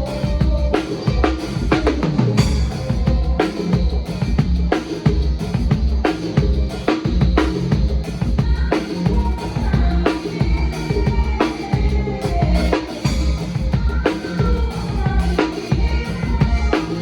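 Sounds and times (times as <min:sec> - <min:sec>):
drum kit groove: 0:00.0 - 0:17.0
sustained low bass notes: 0:00.0 - 0:17.0.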